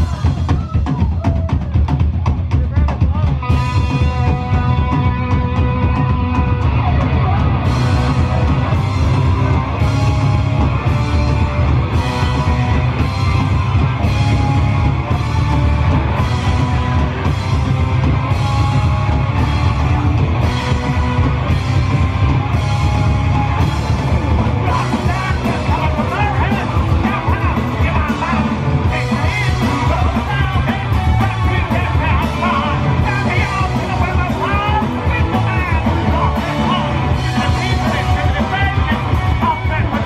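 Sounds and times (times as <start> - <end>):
punk rock band playing live: 0.0 - 40.0.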